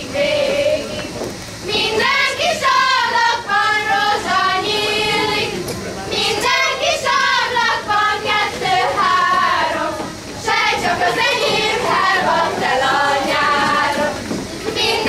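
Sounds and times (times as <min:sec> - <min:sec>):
girls singing folk song: 0:00.0 - 0:15.0.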